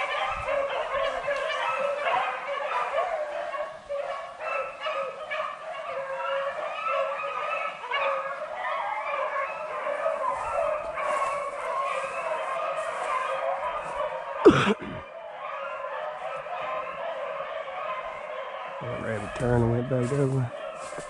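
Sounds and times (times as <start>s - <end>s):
beagles baying: 0.0s - 21.0s.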